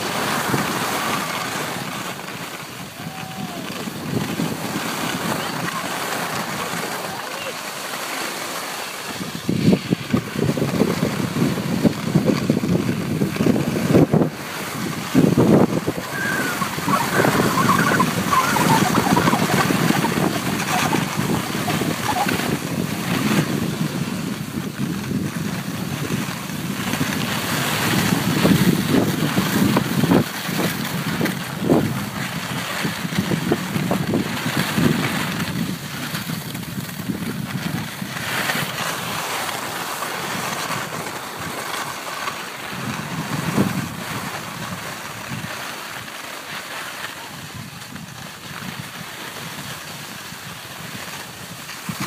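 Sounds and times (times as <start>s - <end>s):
wind buffeting microphone: 0.0s - 7.4s, 9.1s - 41.6s, 42.6s - 46.1s, 47.3s - 52.0s
skis sliding over snow: 0.0s - 52.0s.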